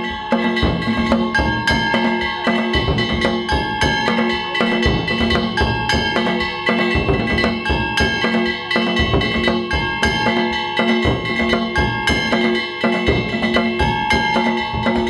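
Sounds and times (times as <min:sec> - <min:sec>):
metal gongs clanging: 0:00.0 - 0:15.0
taiko drums fast rhythm: 0:00.0 - 0:15.0.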